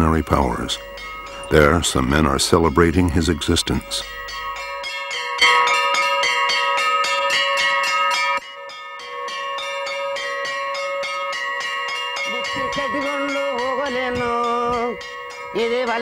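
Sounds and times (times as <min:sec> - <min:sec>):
temple bell rung rapidly: 0:00.0 - 0:16.0.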